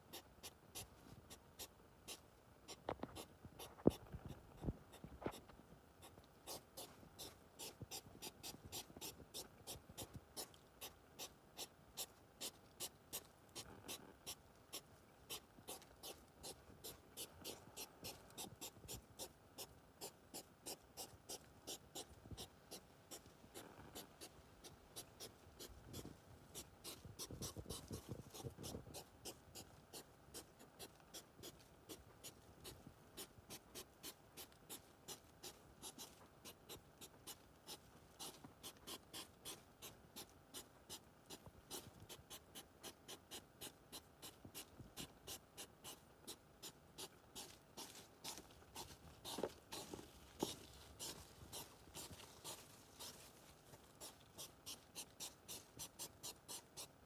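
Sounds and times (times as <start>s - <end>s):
rustle: 0.0s - 57.0s.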